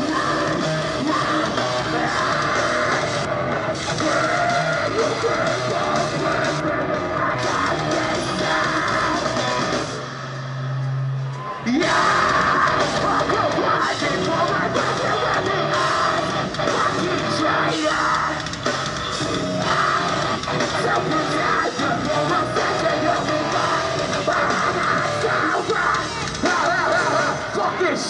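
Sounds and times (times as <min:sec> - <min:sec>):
vocalist screaming: 0:00.0 - 0:10.0, 0:11.6 - 0:18.6, 0:19.2 - 0:28.0
distorted guitars: 0:00.0 - 0:28.0
heavy metal band playing live: 0:00.0 - 0:28.0.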